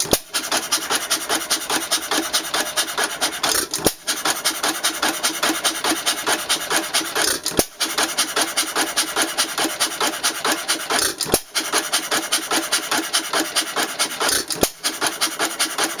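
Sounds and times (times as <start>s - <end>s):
hit-and-miss engine clattering: 0.0s - 16.0s.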